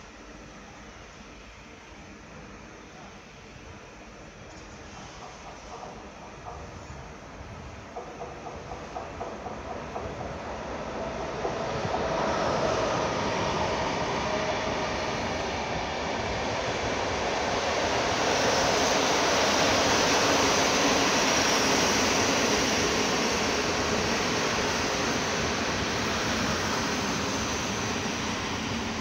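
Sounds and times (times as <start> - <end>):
faint locomotive whine: 0.0 - 29.0
train wheels rumbling on rails: 0.2 - 29.0.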